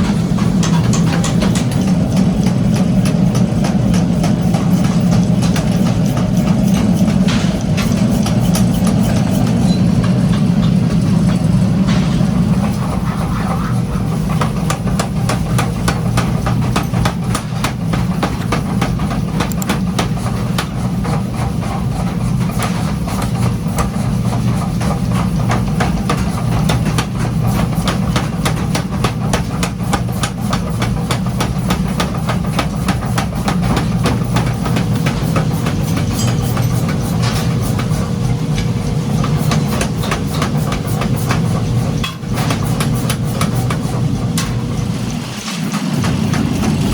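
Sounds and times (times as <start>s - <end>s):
machinery humming: 0.0s - 46.9s.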